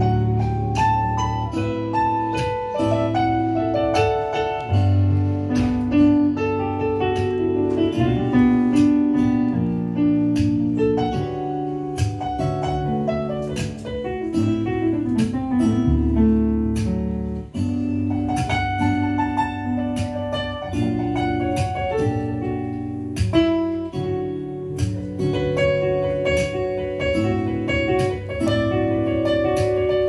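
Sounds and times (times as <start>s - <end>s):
jazz piano on keyboard: 0.0s - 30.0s.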